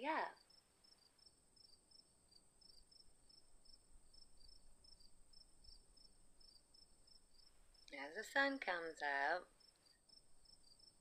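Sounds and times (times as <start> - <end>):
cricket chirping: 0.0 - 11.0
faint high-pitched whine: 0.0 - 11.0.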